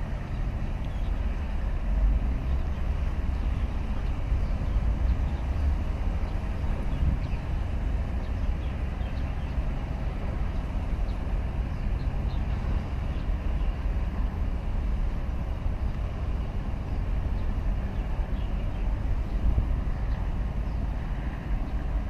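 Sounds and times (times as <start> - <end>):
ship engine low rumble: 0.0 - 22.0
wind buffeting microphone: 0.0 - 22.0.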